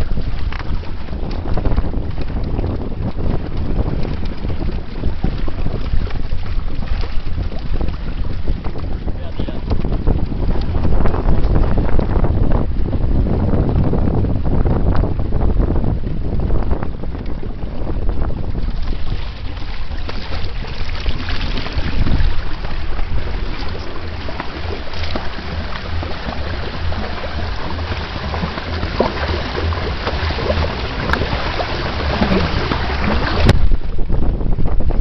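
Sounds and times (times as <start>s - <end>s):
water rushing past hulls: 0.0s - 35.0s
wind buffeting microphone: 0.0s - 35.0s.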